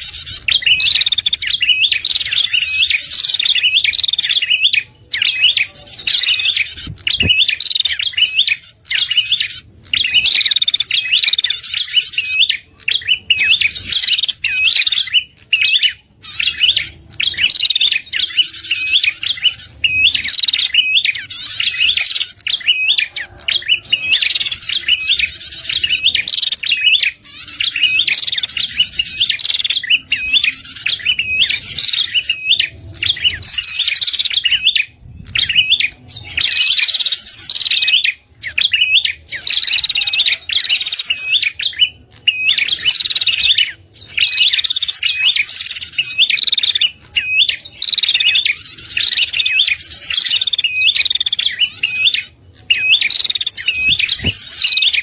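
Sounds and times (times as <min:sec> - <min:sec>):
bird sharp chirps and trills: 0:00.0 - 0:55.0.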